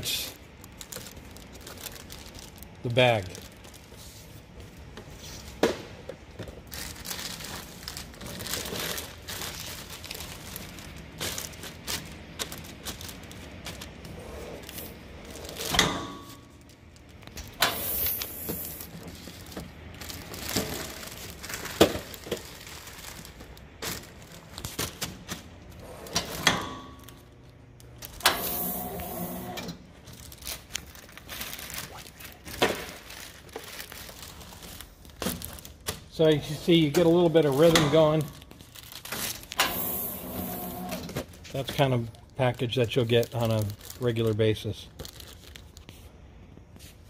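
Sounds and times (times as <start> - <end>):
plastic film crinkling: 0.0 - 47.0.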